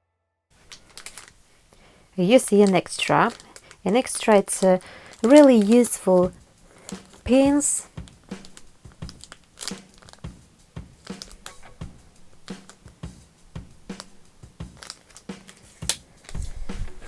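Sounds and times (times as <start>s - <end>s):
faint background music: 0.6s - 17.0s
packaging crinkling: 0.6s - 17.0s.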